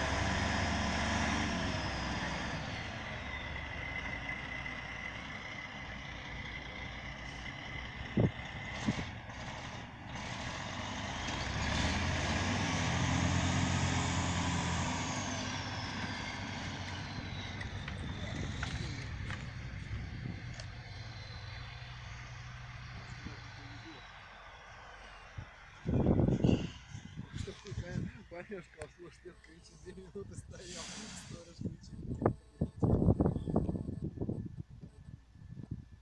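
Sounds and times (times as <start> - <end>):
heavy diesel engine running: 0.0 - 32.4.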